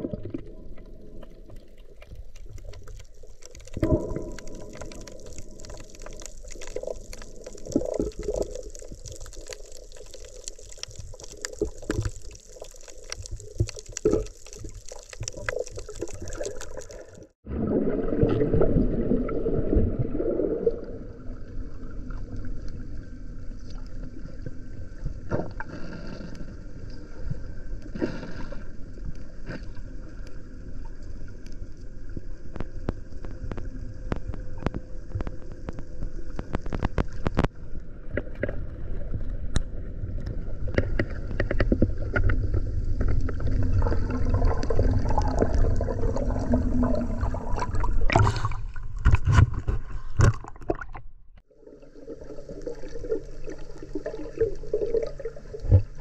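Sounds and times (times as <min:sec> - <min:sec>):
underwater rushing and gurgling: 0:00.0 - 0:56.0.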